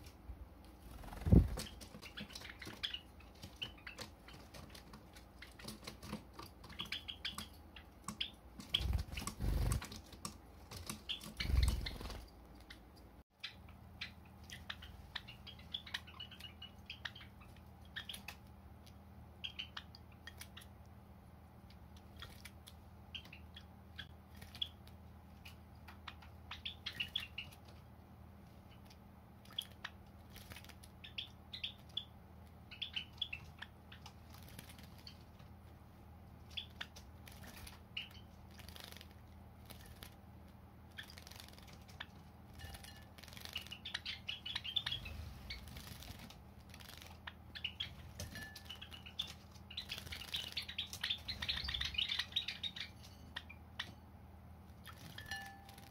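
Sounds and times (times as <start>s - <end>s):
sparrows chirping: 0.8s - 10.0s, 10.6s - 20.8s, 22.0s - 27.9s, 28.6s - 35.4s, 36.4s - 40.2s, 40.8s - 54.1s, 54.7s - 55.9s.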